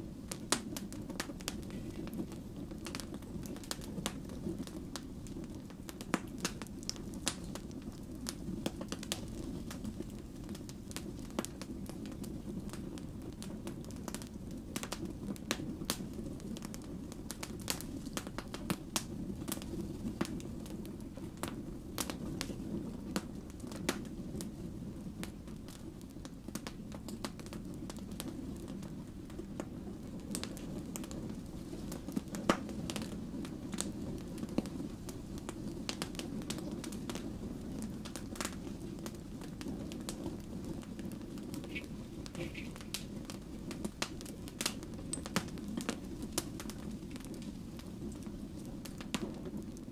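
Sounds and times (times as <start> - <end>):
logs crackling and popping: 0.0 - 49.9
wood fire rumbling: 0.0 - 49.9.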